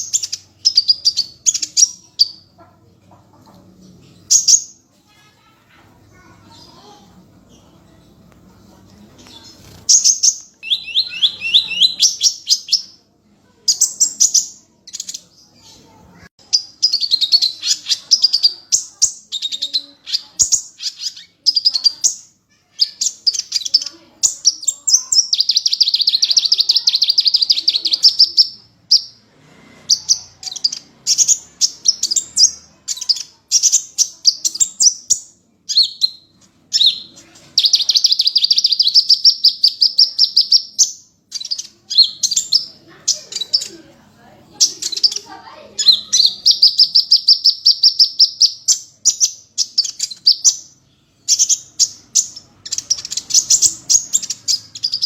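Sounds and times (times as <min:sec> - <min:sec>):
small bird twittering song: 0:00.0 - 0:55.0.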